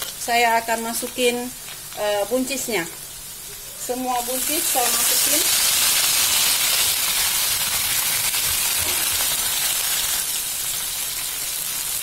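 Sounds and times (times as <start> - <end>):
green beans sizzling in oil: 0.0 - 12.0.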